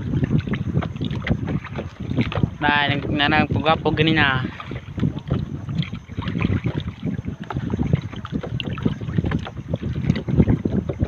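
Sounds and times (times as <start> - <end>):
water sloshing around a wading person: 0.0 - 11.0
wind buffeting the microphone: 0.0 - 11.0.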